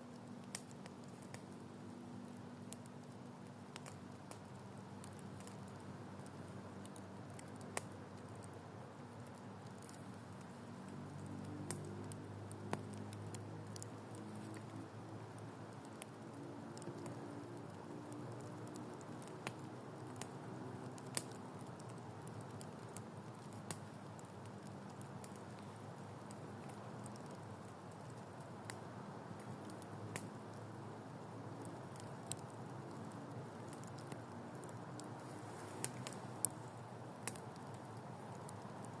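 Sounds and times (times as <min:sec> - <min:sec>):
campfire crackling and popping: 0:00.0 - 0:39.0
low hiss: 0:00.0 - 0:39.0.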